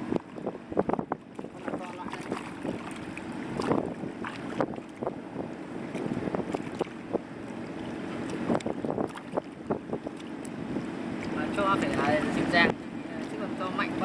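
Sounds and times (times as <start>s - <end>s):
steady low hum: 0.0s - 14.0s
wind buffeting microphone: 0.0s - 14.0s
splashes in shallow water and mud: 1.2s - 5.1s, 5.9s - 14.0s.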